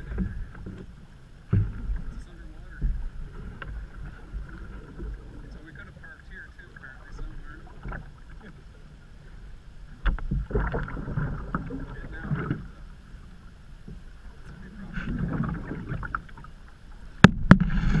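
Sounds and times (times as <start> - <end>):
paddle strokes in water: 0.0 - 18.0.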